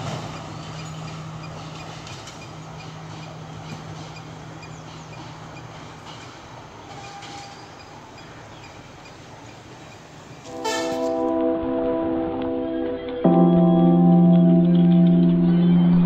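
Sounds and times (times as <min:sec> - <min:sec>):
train engine hum and rumble: 0:00.0 - 0:16.0.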